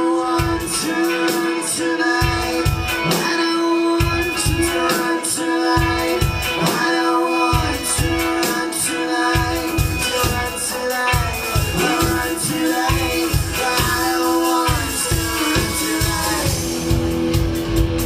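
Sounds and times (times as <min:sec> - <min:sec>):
person singing: 0:00.0 - 0:17.0
live band playing dance-pop: 0:00.0 - 0:18.0.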